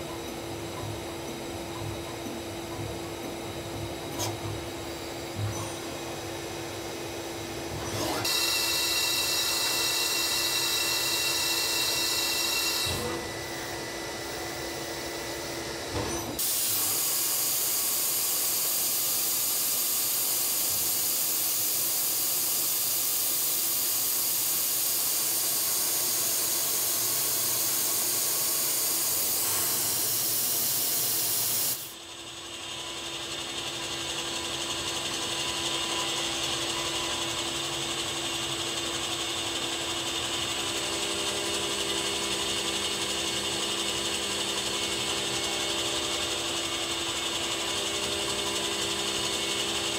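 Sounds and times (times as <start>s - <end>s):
lathe whine: 0.0s - 49.9s.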